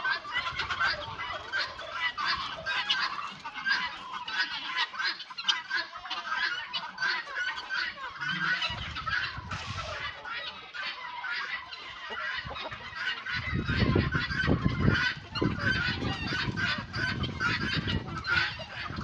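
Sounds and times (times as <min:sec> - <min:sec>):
farmyard poultry calling: 0:00.0 - 0:19.0.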